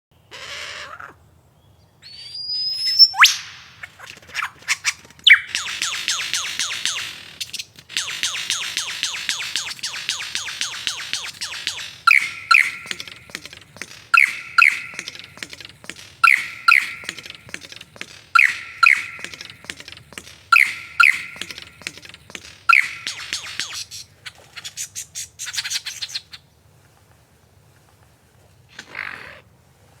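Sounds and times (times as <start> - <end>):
bird calling: 2.0 - 26.4.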